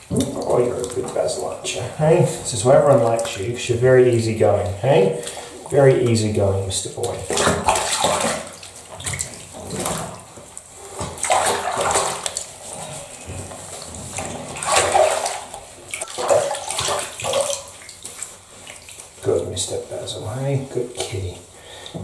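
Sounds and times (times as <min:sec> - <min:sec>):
bathwater splashing: 0:00.0 - 0:22.0.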